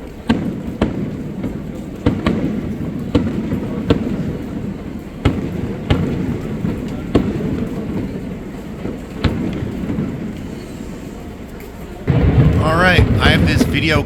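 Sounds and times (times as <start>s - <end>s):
firework shells booming: 0.0s - 11.4s, 12.0s - 14.0s
low rumble of firework bursts: 0.0s - 14.0s.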